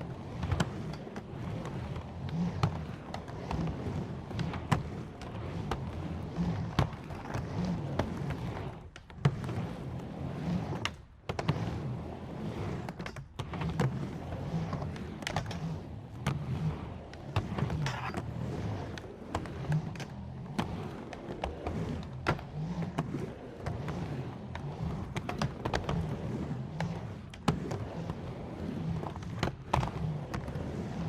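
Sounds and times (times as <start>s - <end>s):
skateboard clicks and knocks: 0.0s - 31.0s
skateboard wheels rumbling: 0.0s - 31.0s.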